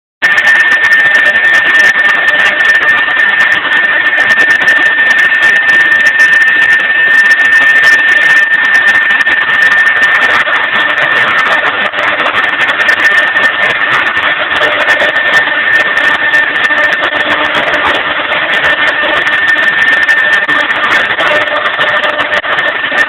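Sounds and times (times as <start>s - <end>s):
router whining: 0.2s - 23.0s.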